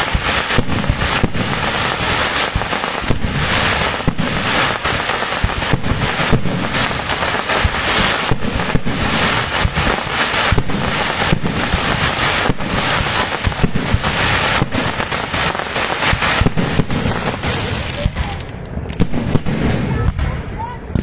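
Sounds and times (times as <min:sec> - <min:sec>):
firecrackers crackling: 0:00.0 - 0:21.0
firework bangs: 0:00.0 - 0:21.0.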